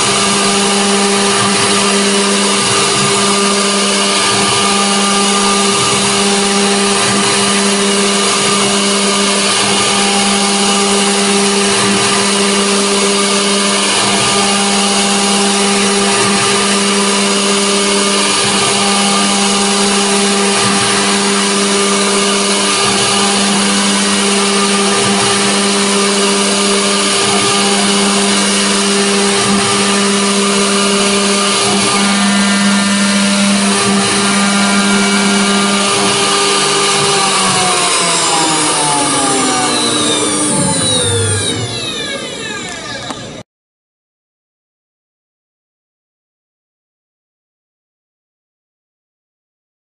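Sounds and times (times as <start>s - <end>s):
bit cutting metal: 0.0s - 43.4s
router spindle constant tone: 0.0s - 43.4s.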